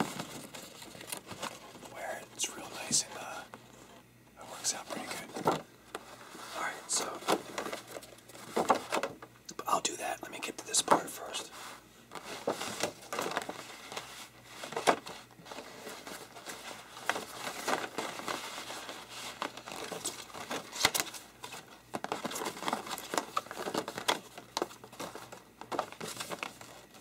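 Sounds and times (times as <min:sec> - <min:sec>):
posterboard rustling and crinkling: 0:00.0 - 0:09.3, 0:10.6 - 0:27.0.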